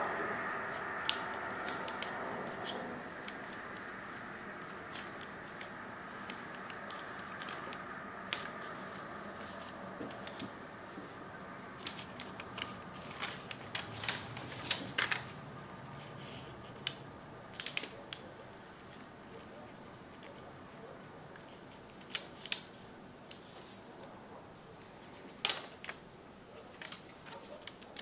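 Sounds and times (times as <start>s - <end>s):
paper crinkling and folding: 0.0s - 24.1s, 24.7s - 28.0s
steady background hiss: 0.0s - 28.0s.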